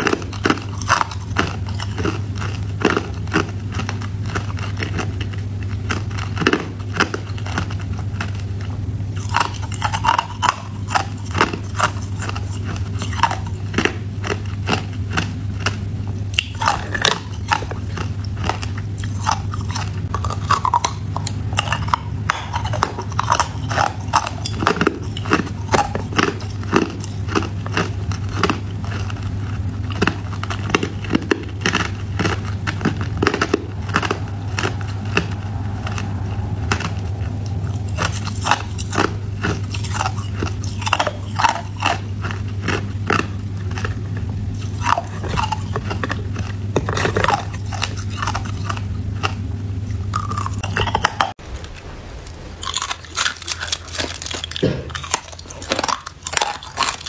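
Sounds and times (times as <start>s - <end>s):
ice crunching while chewed: 0.0s - 51.4s, 52.6s - 57.0s
low hum: 0.0s - 57.0s.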